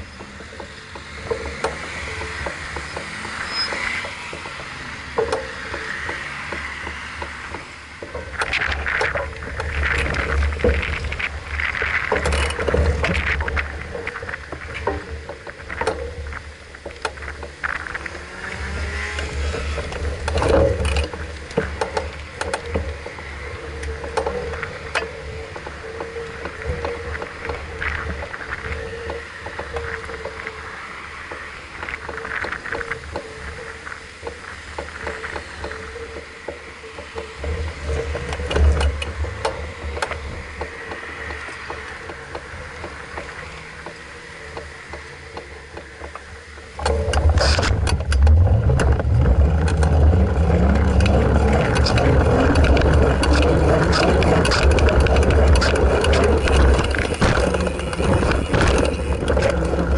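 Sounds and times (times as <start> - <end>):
bike frame and chain rattling: 0.0 - 59.9
bike tyre rumble: 0.0 - 59.9.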